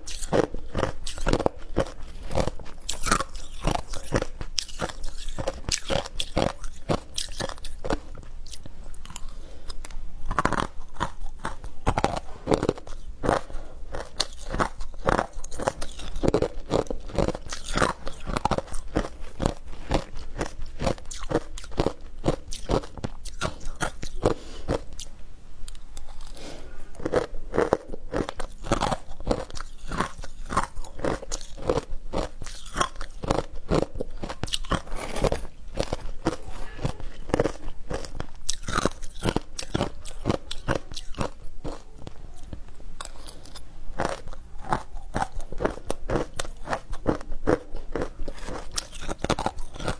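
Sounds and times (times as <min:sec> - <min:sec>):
shaved ice crunched and chewed: 0:00.0 - 0:25.1, 0:27.0 - 0:42.0, 0:43.0 - 0:49.9.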